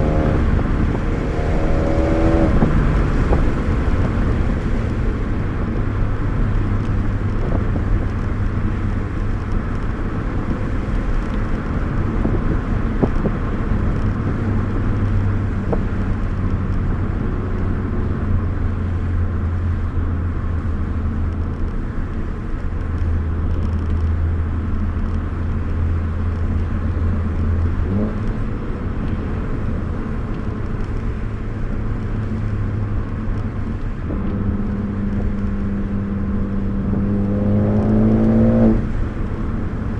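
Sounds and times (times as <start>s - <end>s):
car engine from inside cabin: 0.0s - 39.9s
tyre road noise: 0.0s - 39.9s.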